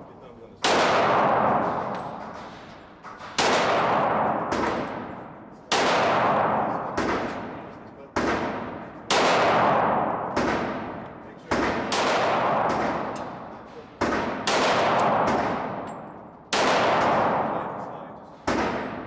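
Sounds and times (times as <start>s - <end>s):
pistol shots: 0.6s - 19.0s.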